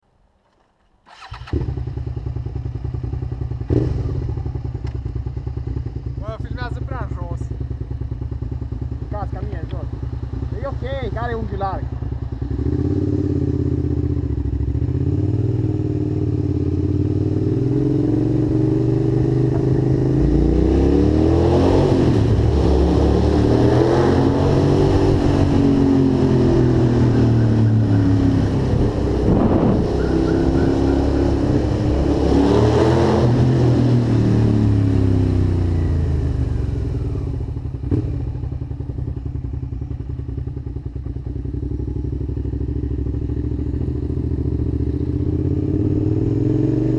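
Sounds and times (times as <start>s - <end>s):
motorcycle engine revving: 1.0s - 46.9s.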